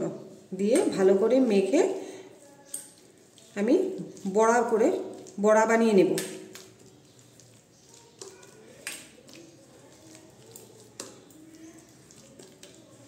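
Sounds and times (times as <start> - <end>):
hand squelching wet paste: 0.7 - 13.0.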